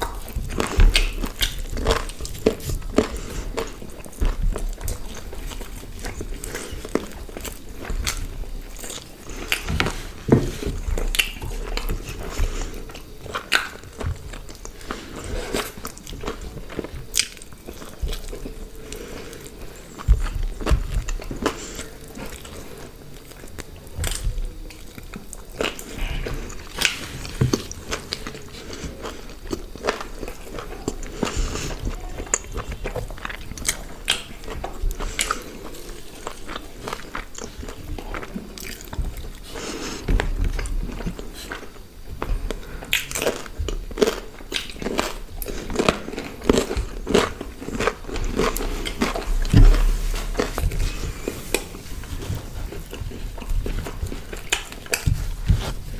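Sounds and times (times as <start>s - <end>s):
close-miked chewing and biting food: 0.0s - 55.9s.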